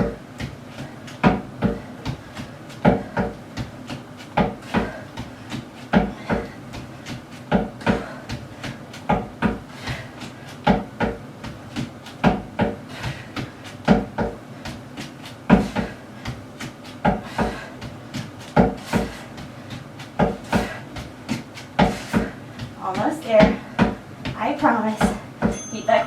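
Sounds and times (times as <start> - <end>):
feet thudding on box and floor: 0.0 - 25.6.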